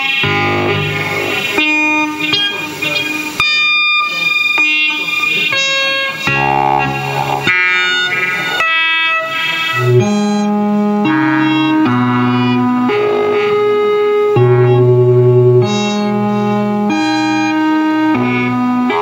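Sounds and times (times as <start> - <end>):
electronic music held tones: 0.0 - 19.0.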